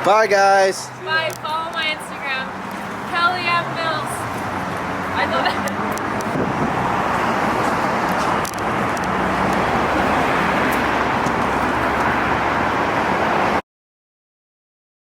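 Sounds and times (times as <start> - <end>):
road noise rushing hiss: 0.0 - 13.6.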